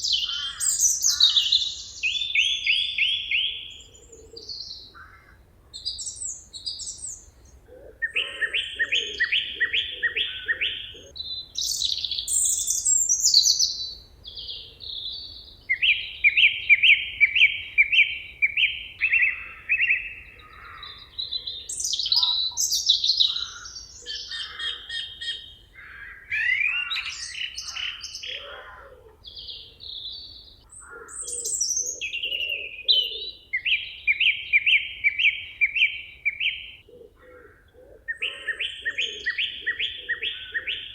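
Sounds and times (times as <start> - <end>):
songbirds singing chorus: 0.0 - 40.9.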